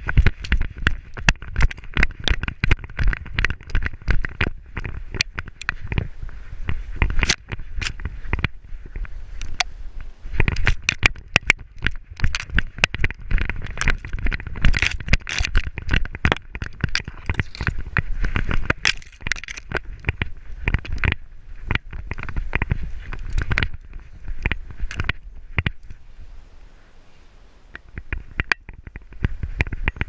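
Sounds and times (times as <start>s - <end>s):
dry grass crackling against camera: 0.0s - 30.0s.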